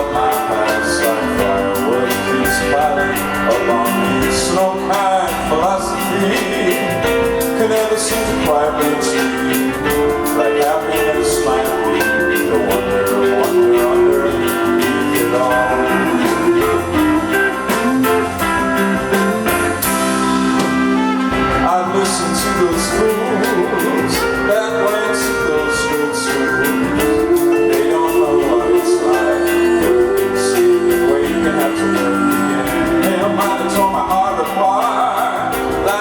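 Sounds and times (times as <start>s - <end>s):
person singing: 0.0s - 36.0s
rock band playing live: 0.0s - 36.0s.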